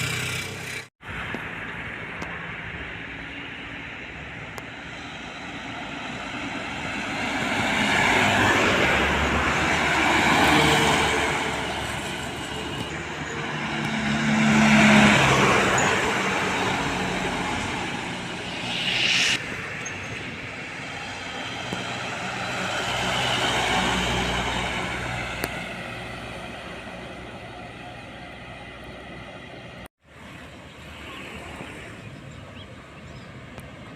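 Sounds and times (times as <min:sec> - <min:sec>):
trucks passing on highway: 0:00.0 - 0:33.9.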